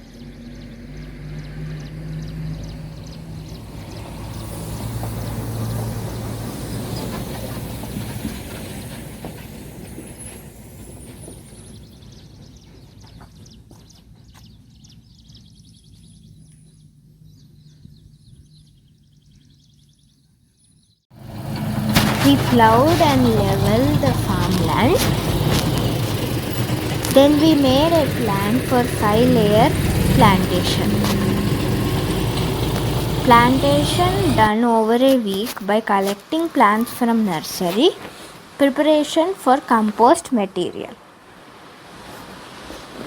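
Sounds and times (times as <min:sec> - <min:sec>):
vehicle engine humming: 0:00.0 - 0:19.1, 0:21.1 - 0:43.0.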